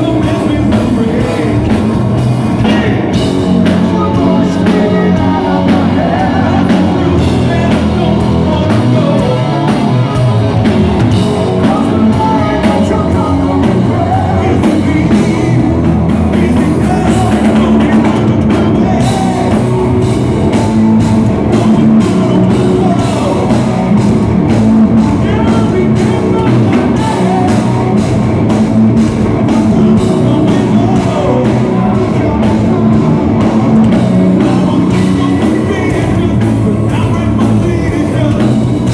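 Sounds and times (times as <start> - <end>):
person singing: 0.0 - 2.0, 2.6 - 28.2, 29.2 - 38.9
live rock band playing: 0.0 - 38.9.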